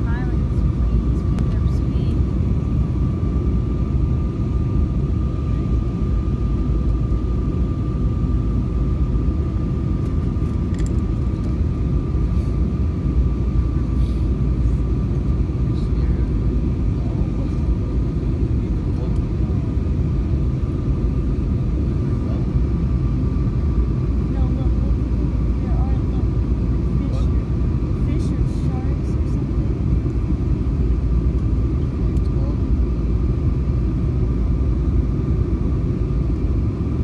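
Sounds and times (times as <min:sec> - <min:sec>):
airliner cabin roar: 0:00.0 - 0:37.0
thin steady whine: 0:00.0 - 0:37.0.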